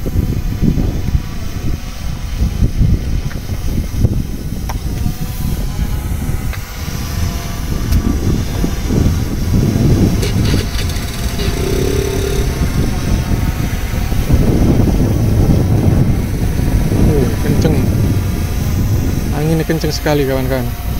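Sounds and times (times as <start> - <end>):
wind gusting over microphone: 0.0 - 20.9.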